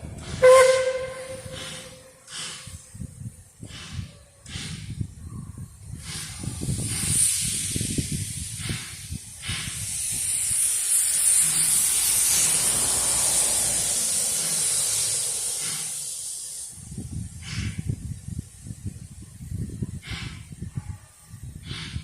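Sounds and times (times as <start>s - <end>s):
short steam puffs: 0.0s - 22.0s
steam locomotive venting steam hiss: 0.0s - 22.0s.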